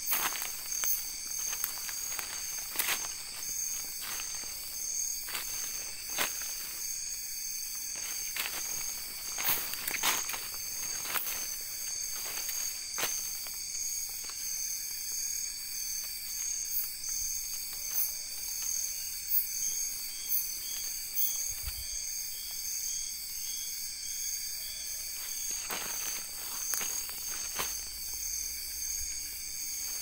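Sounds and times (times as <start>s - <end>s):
rustles in undergrowth: 0.0s - 22.7s, 24.4s - 30.0s
crickets and insects trilling: 0.0s - 30.0s.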